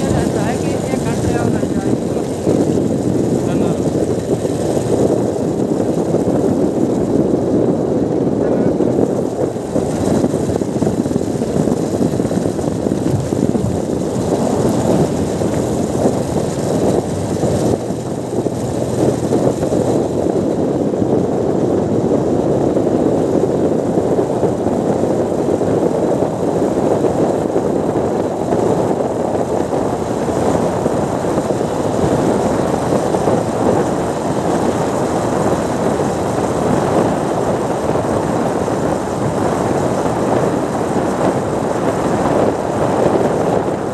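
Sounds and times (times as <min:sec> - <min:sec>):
vehicle rumble: 0:00.0 - 0:43.9.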